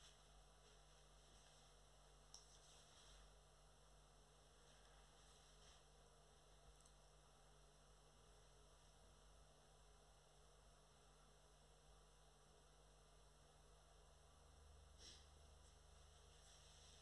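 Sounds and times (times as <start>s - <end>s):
faint low hum and hiss: 0.0s - 17.0s.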